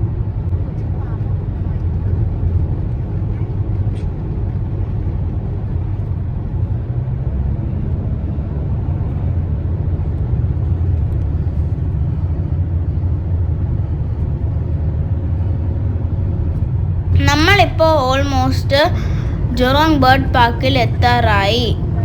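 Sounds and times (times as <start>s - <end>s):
vehicle road rumble: 0.0s - 22.0s.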